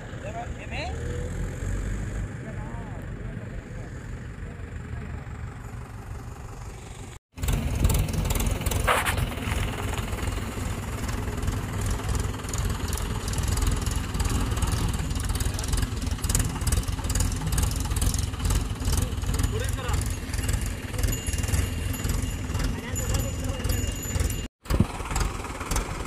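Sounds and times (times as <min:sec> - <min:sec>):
tractor diesel engine idling: 0:02.3 - 0:26.0.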